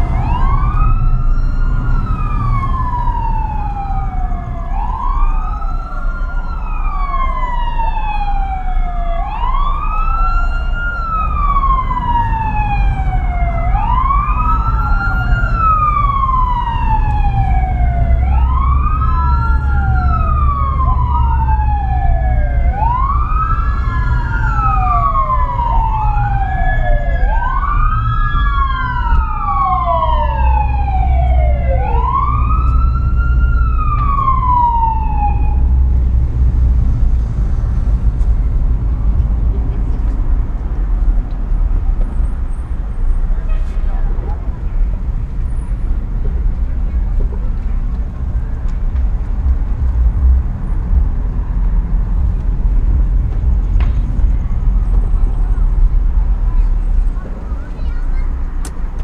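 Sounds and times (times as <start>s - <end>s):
car engine rumble: 0.0s - 59.0s
emergency sirens wailing: 0.0s - 59.0s
road noise: 0.0s - 59.0s.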